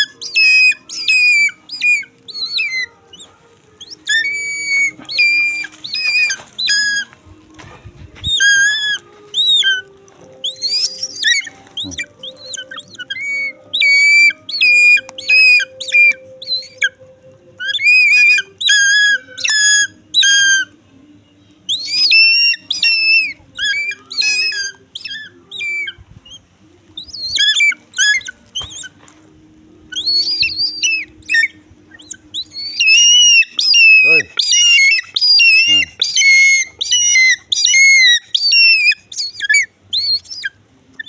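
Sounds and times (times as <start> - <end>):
eagle shrill calls: 0.0 - 17.0, 17.6 - 20.8, 21.7 - 29.1, 29.9 - 41.0.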